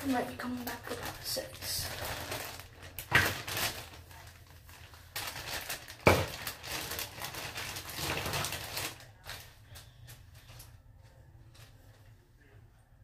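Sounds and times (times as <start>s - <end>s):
rustling and handling of products: 0.0s - 13.0s.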